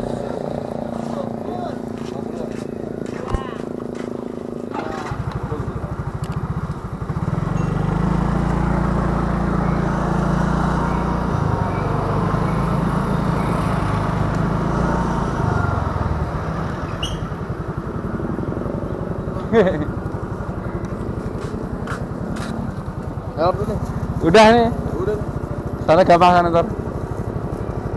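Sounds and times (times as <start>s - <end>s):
scooter engine: 0.0s - 27.9s.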